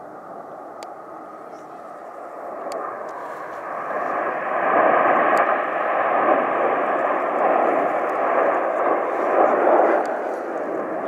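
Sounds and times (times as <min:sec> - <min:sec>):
jet engines roaring past: 0:00.0 - 0:11.0.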